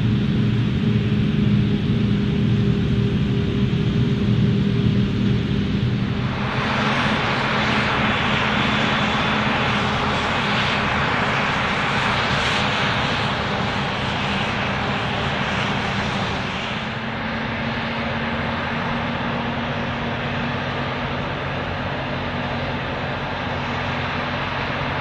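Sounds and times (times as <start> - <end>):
harvester engine drone: 0.0 - 25.0.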